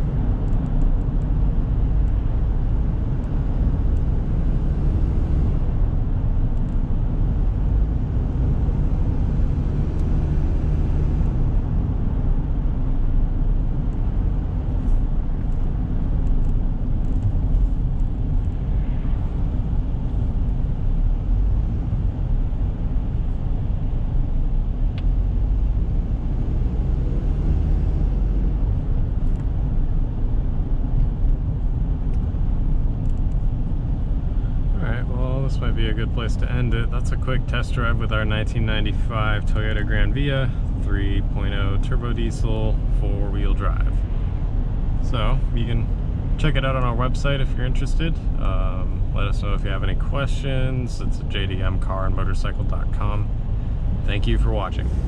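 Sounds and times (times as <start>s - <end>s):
diesel van engine running: 0.0s - 55.0s
road rumble: 0.0s - 55.0s.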